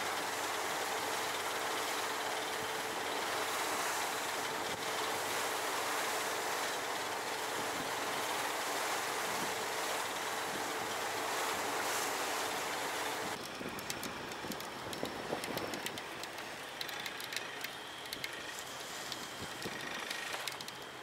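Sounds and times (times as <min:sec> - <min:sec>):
sea noise: 0:00.0 - 0:21.0
wind: 0:00.0 - 0:21.0.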